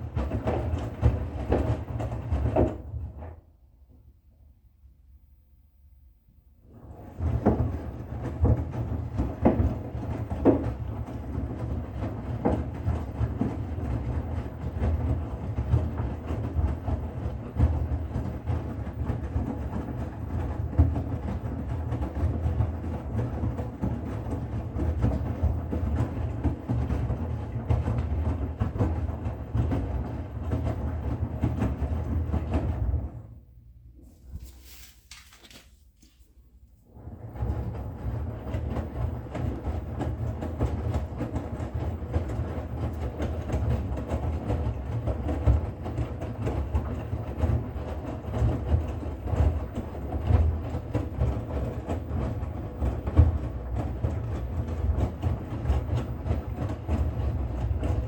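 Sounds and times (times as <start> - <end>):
washing machine rumble: 0.0 - 4.0, 6.6 - 58.0.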